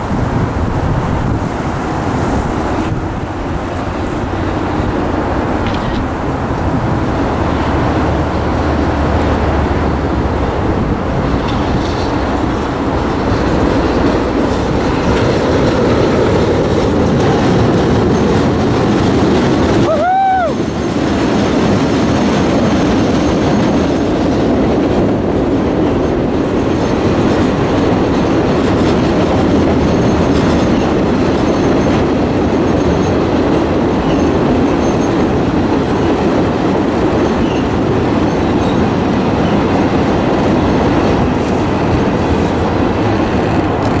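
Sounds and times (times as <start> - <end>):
train crossing steel bridge: 0.0 - 44.0.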